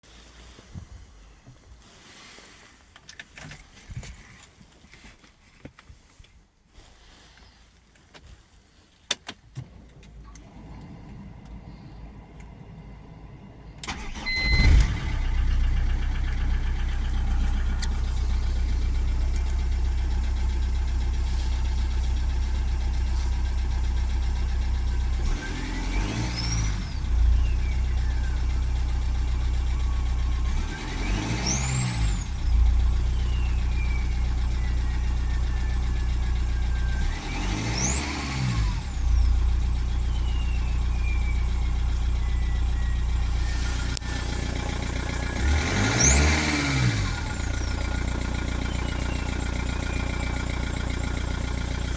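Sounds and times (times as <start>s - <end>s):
diesel engine starting and idling: 9.6s - 51.9s.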